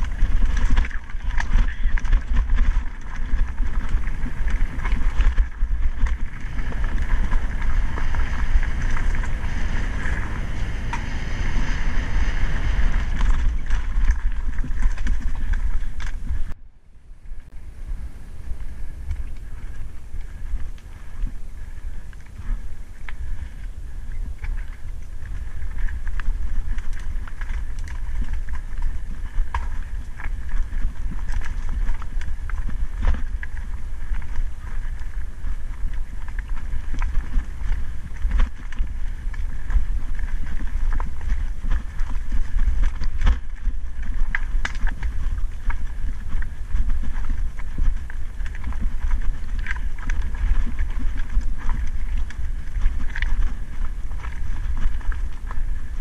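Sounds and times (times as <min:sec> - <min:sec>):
bike rattling and knocking: 0:00.0 - 0:16.6, 0:19.0 - 0:56.0
tyres crunching over stones: 0:00.0 - 0:16.6, 0:18.2 - 0:56.0
wind rumbling on microphone: 0:00.0 - 0:56.0.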